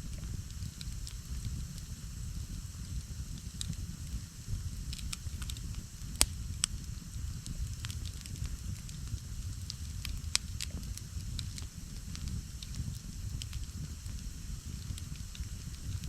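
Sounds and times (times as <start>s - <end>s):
campfire crackles and pops: 0.0s - 16.0s
low fire rumble: 0.0s - 16.0s.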